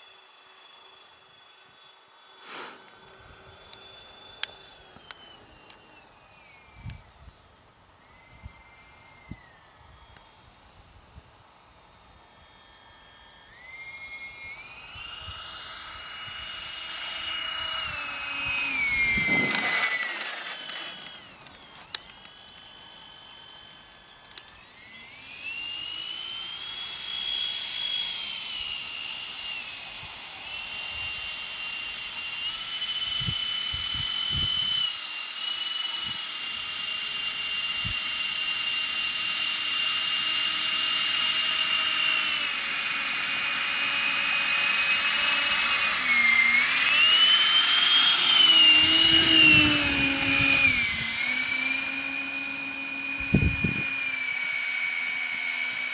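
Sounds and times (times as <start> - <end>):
electric ducted fans whining: 0.0 - 55.9.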